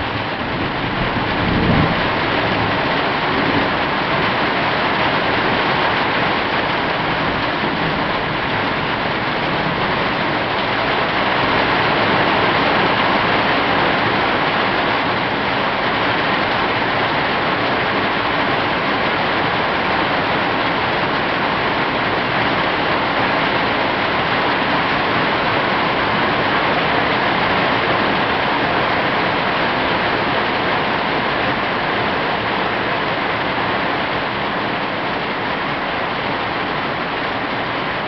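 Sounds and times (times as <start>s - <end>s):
rain on a tin roof: 0.0s - 38.0s.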